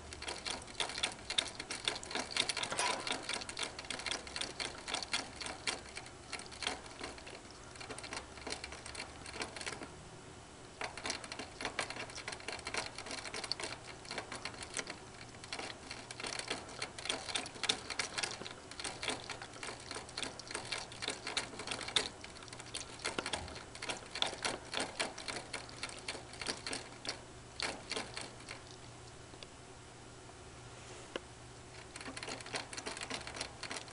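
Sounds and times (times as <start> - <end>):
ferret licking water bottle spout: 0.0 - 9.9, 10.8 - 28.8, 31.7 - 33.9.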